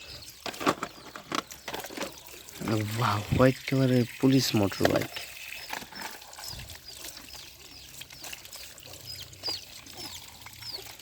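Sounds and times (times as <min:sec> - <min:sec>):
small bird chirping: 0:00.0 - 0:03.4, 0:04.4 - 0:11.0
water trickling: 0:00.0 - 0:11.0.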